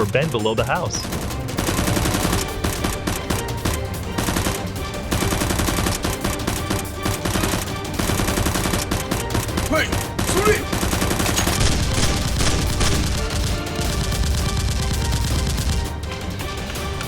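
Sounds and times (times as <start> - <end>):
background music: 0.0 - 17.0
automatic gunfire: 1.2 - 16.0.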